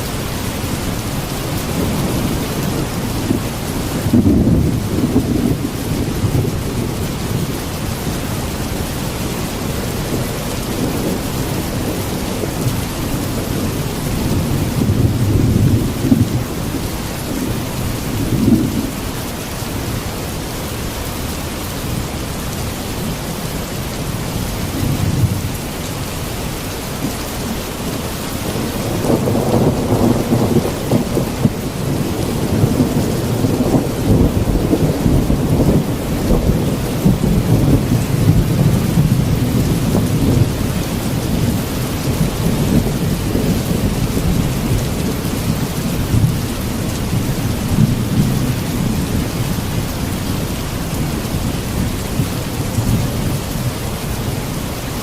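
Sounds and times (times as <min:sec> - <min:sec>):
rolling thunder: 0:00.0 - 0:19.4, 0:23.8 - 0:55.0
heavy rain: 0:00.0 - 0:55.0.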